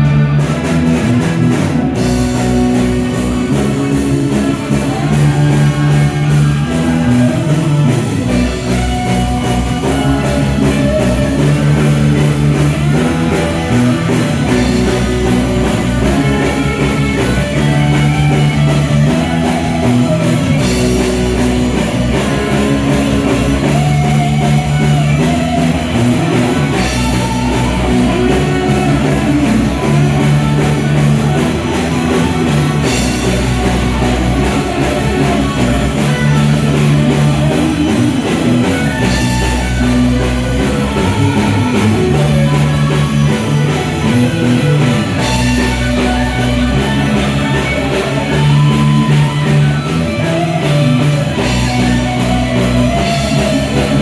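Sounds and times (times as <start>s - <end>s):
drum kit: 0.0s - 54.0s
electric guitars: 0.0s - 54.0s
live rock band playing: 0.0s - 54.0s.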